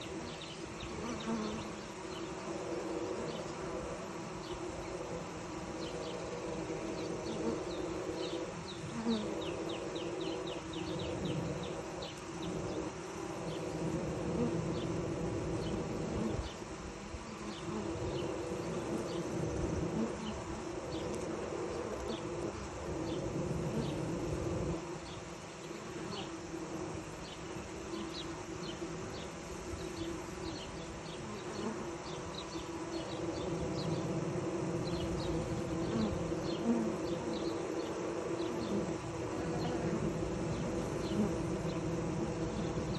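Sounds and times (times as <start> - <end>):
bees buzzing: 0.0 - 42.9.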